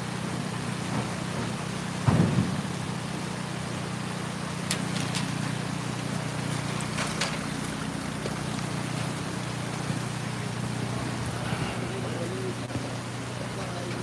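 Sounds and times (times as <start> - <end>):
low machine hum: 0.0 - 14.0
river water rushing: 2.6 - 14.0.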